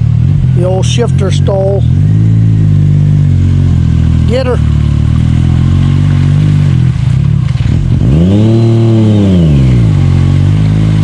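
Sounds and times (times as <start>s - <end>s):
utv engine revving: 0.0s - 11.0s.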